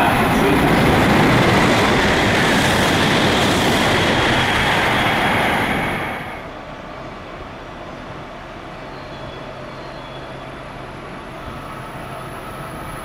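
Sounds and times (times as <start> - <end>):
train passing at high speed: 0.0 - 13.0.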